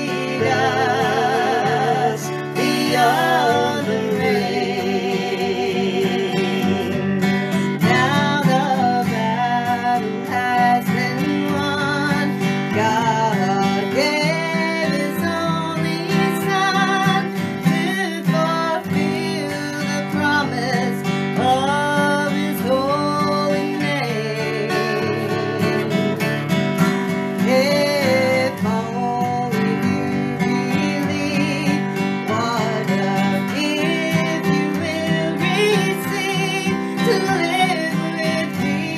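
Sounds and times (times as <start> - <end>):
acoustic guitar strumming: 0.0 - 38.9
person singing: 0.0 - 38.9.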